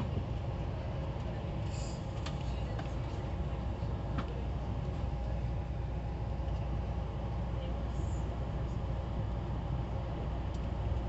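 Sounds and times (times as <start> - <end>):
train car rumbling on track: 0.0 - 11.0.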